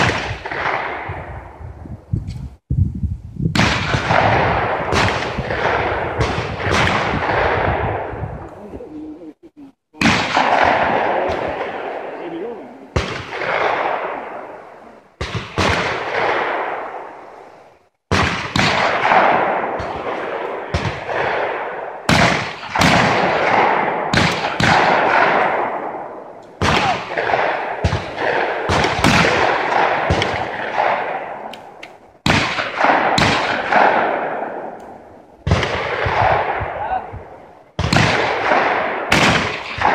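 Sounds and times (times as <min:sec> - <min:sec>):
shotgun shots echoing: 0:00.0 - 0:01.5, 0:03.6 - 0:08.2, 0:10.0 - 0:17.5, 0:18.1 - 0:39.9.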